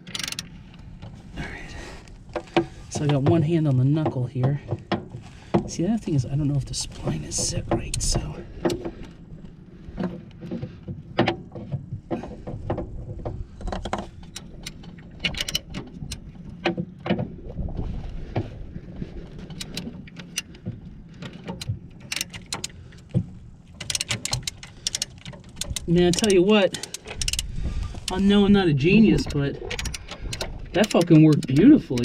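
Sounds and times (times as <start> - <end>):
metal clicks and knocks: 0.0 - 1.2, 2.0 - 17.3, 19.4 - 32.0
wind buffeting microphone: 0.0 - 32.0.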